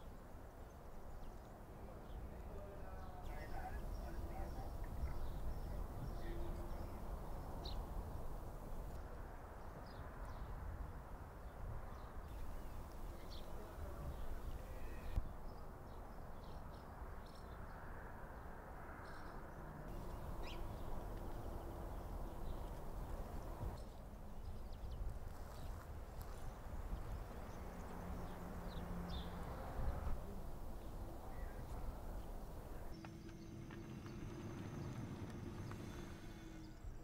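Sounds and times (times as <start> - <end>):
low rumble of wind: 0.0 - 37.0.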